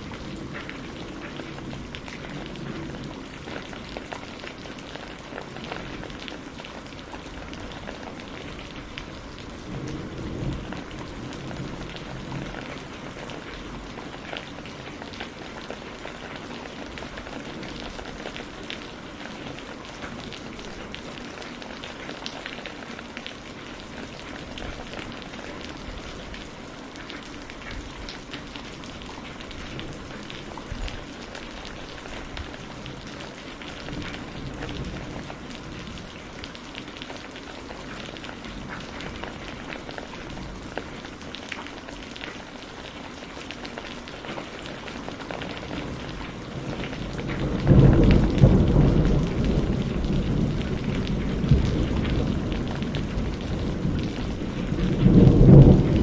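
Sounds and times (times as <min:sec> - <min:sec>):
rain drops pattering: 0:00.0 - 0:56.0.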